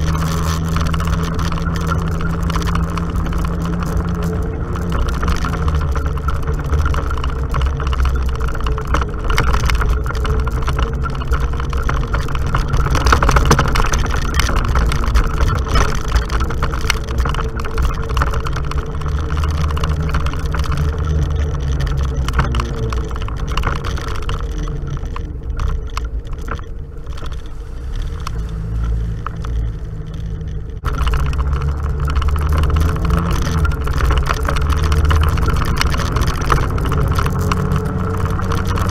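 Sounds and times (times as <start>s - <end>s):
bumps and rattles: 0.0s - 38.9s
off-road vehicle engine running: 0.0s - 38.9s.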